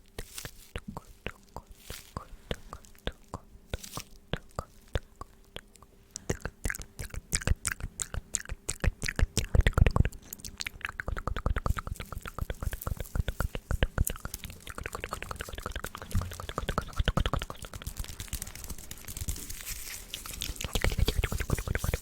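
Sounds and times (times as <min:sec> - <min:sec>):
wet mouth clicks and smacks: 0:00.1 - 0:19.5, 0:20.1 - 0:22.0.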